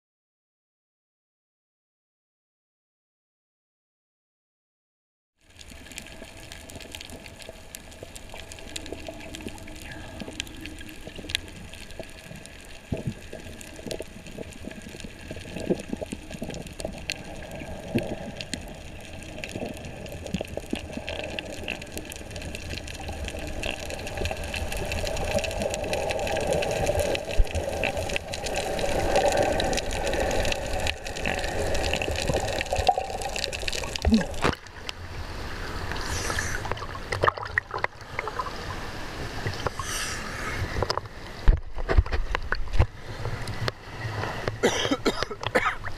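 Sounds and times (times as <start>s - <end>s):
underwater rush of water: 5.4s - 45.9s.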